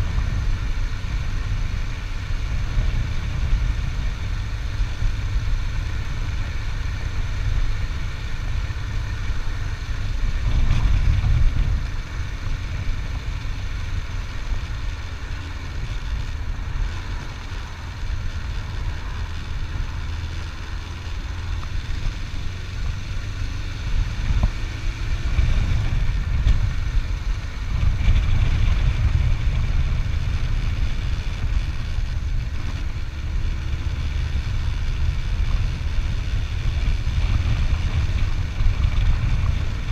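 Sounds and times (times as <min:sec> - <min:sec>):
motorcycle engine rumble: 0:00.0 - 0:39.9.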